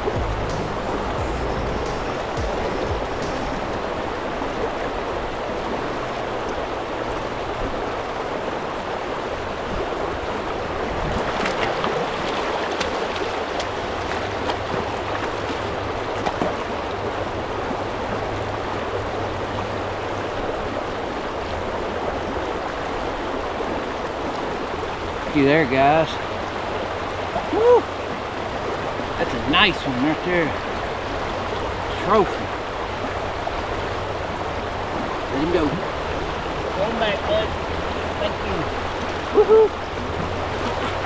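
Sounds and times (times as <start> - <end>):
river current rushing: 0.0 - 41.0
water splashes: 0.0 - 41.0.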